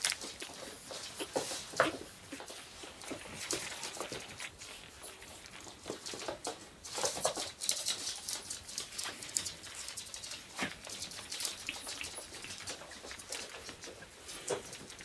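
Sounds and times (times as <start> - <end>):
puppy paws tapping and scratching: 0.0 - 15.0.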